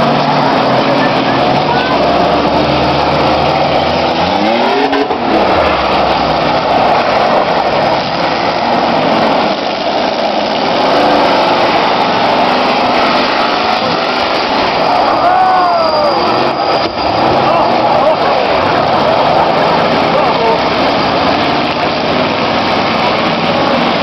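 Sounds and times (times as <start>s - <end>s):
engine revving past: 0.0s - 24.0s
race car engines running hard: 0.0s - 24.0s.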